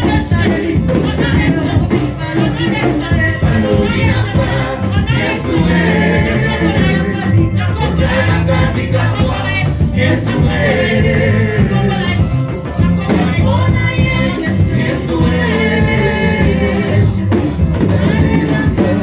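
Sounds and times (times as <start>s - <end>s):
gospel group singing with band: 0.0s - 19.0s.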